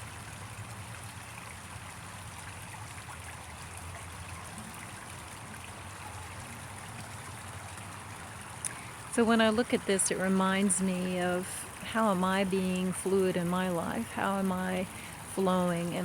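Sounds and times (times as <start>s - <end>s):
stream flowing over rocks: 0.0s - 16.0s.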